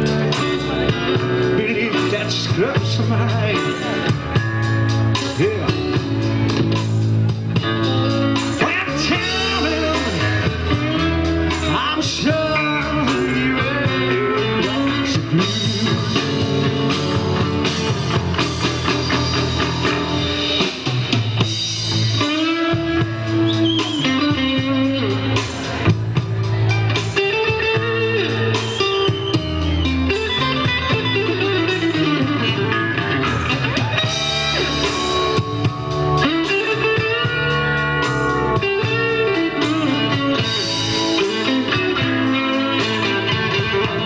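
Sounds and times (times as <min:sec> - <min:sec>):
bass guitar: 0:00.0 - 0:44.0
drums: 0:00.0 - 0:44.0
electric guitar lead with bent notes: 0:00.0 - 0:44.0.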